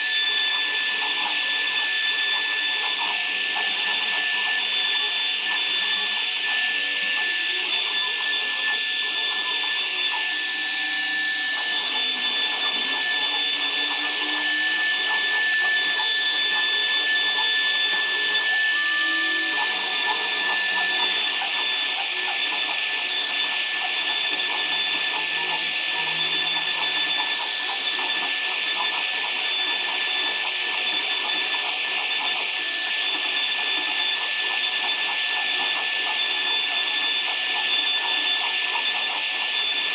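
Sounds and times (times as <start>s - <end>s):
power tool whining: 0.0s - 39.9s.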